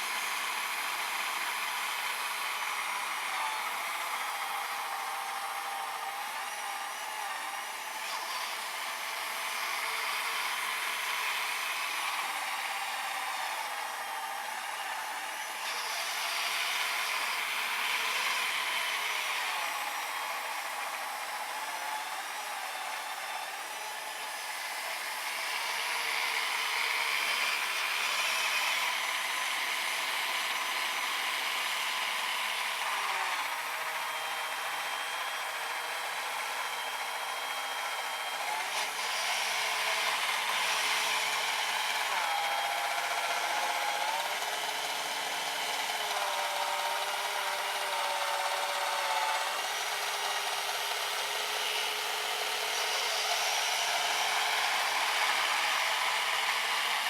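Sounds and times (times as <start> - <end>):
small electric motor whining: 0.0 - 57.0.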